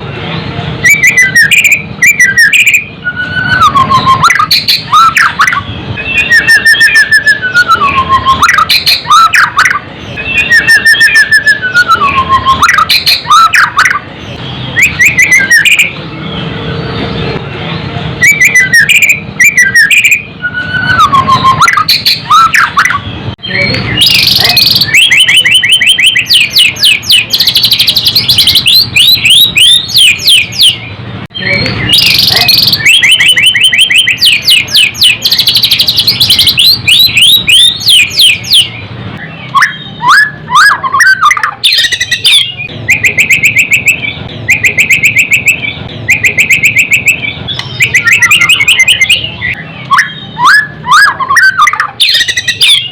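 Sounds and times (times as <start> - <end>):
songbird singing chattering notes: 0.0 - 52.9.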